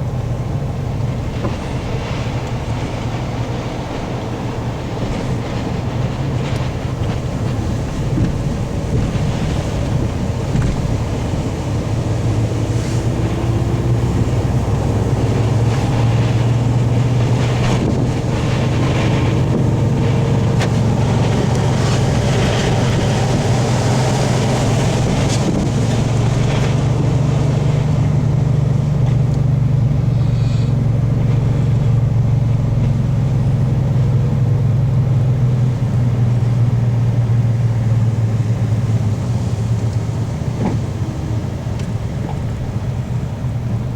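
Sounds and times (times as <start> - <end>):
high wind blowing: 0.0 - 43.9
steady low drone: 0.0 - 43.9.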